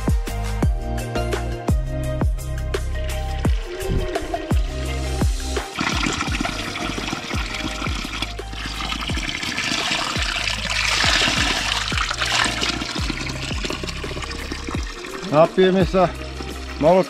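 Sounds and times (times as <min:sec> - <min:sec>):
music with a low beat: 0:00.0 - 0:09.4, 0:10.2 - 0:17.0
water running and splashing: 0:03.0 - 0:17.0.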